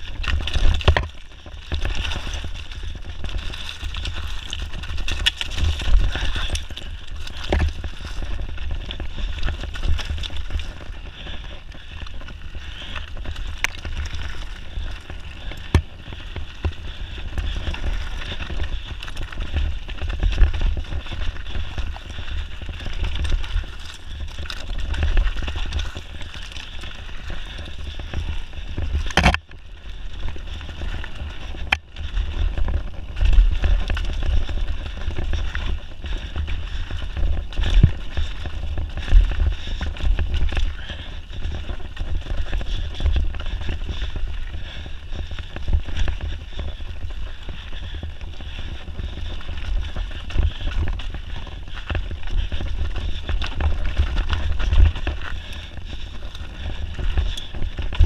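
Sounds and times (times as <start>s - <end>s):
bike rattling: 0.0s - 58.0s
bike tyres crunching over stones: 0.0s - 58.0s
wind rumble on microphone: 0.0s - 58.0s.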